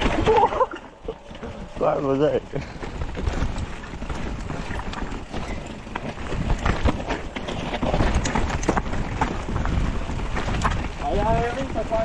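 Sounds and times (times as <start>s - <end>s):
mountain bike rattling and knocking: 0.0s - 12.0s
tyres rumbling on trail: 0.0s - 12.0s.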